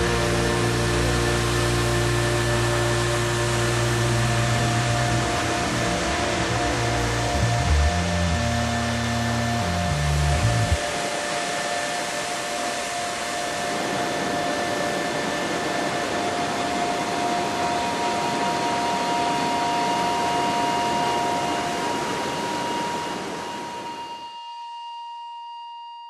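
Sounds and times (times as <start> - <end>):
waterfall roaring: 0.0 - 24.0
faint held tones: 0.0 - 26.0.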